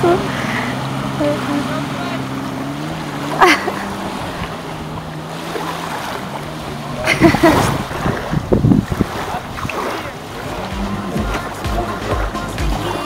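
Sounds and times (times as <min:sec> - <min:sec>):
jet ski engine humming: 0:00.0 - 0:13.0
loud water splashes: 0:00.0 - 0:13.0.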